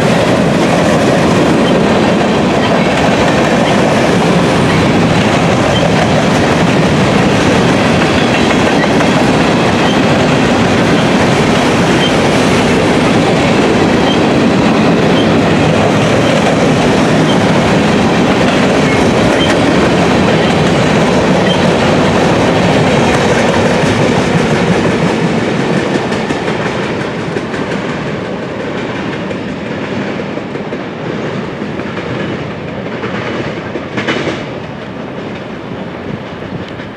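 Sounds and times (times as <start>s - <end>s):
freight train wheels clattering: 0.0s - 36.9s.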